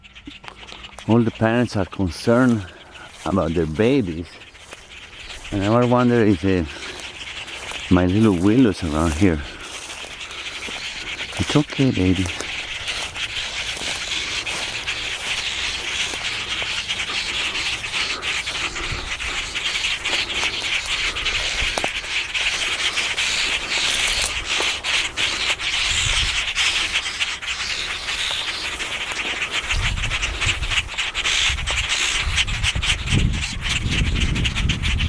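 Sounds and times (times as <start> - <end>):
rustling and scraping with crackles: 0.0 - 35.0.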